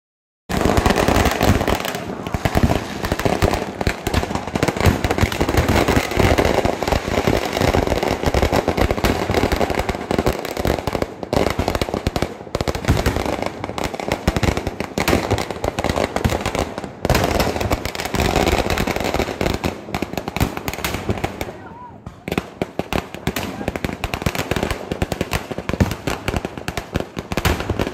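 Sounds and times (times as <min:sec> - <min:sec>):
rapid firecracker bangs: 0:00.5 - 0:27.9.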